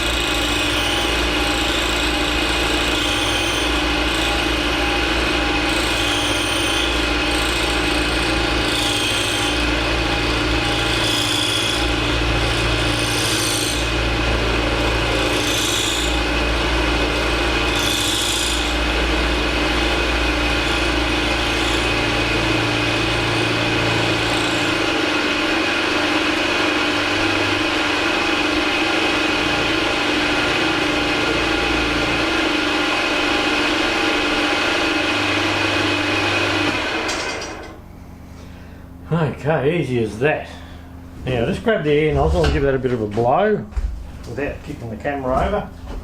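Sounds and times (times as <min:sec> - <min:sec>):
machine tool cutting metal: 0:00.0 - 0:37.8.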